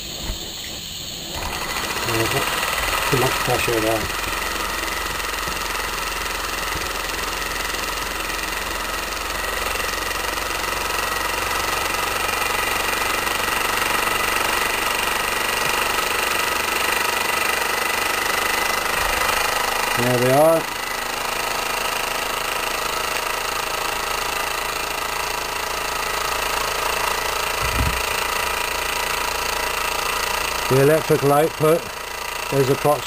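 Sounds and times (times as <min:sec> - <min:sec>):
small stirling engine running: 0:00.0 - 0:33.0.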